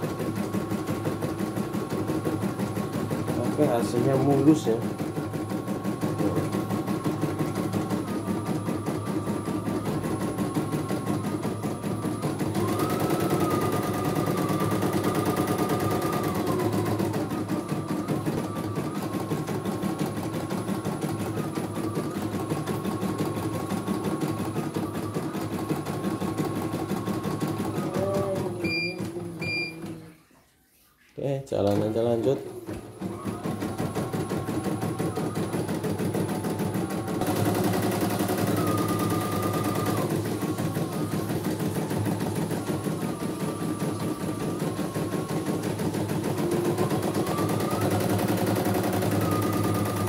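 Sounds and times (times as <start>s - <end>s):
embroidery machine stitching: 0.0s - 30.1s, 31.6s - 50.0s.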